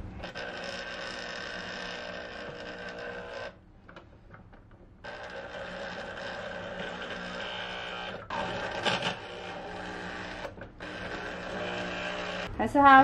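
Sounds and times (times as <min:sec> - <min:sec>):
electric juicer motor humming: 0:00.2 - 0:03.6, 0:05.0 - 0:12.5.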